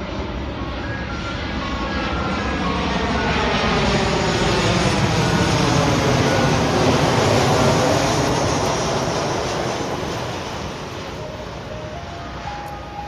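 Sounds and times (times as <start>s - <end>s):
jet airliner engine roar: 0.0s - 13.0s.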